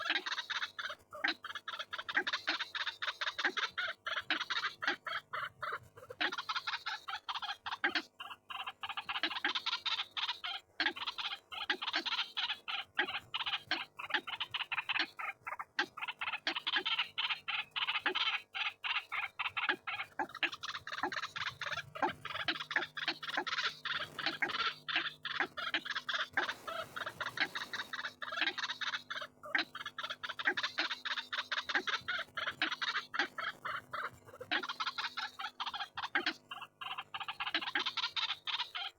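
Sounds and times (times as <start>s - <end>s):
bird calling harsh croaking notes: 6.2s - 38.9s.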